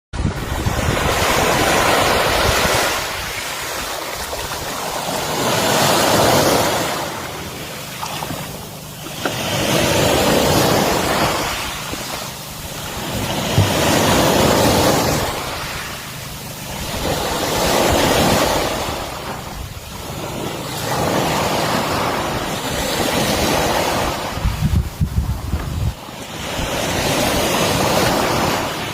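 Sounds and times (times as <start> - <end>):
wind on microphone: 0.1 - 7.4, 8.2 - 28.9
waves washing in: 0.2 - 28.9.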